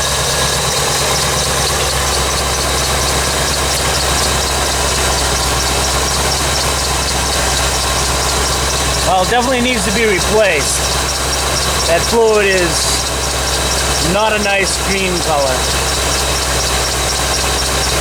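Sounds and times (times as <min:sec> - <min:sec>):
car engine idling: 0:00.0 - 0:18.0
fast even engine ticking: 0:00.0 - 0:18.0.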